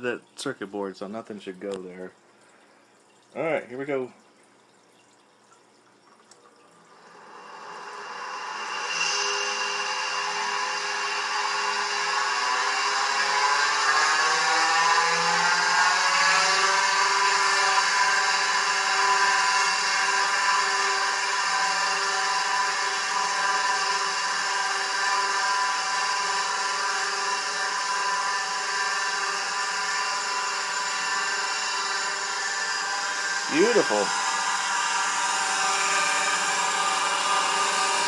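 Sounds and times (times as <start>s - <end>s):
hard drive motor whining: 7.0s - 38.0s.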